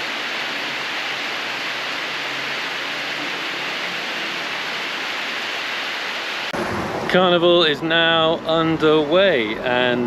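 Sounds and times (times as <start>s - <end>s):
rain hiss: 0.0s - 8.6s.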